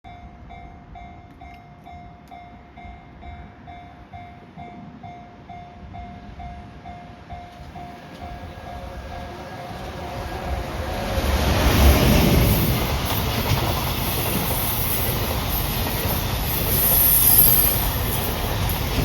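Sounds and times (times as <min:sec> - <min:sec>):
freight train approaching: 0:00.1 - 0:19.0.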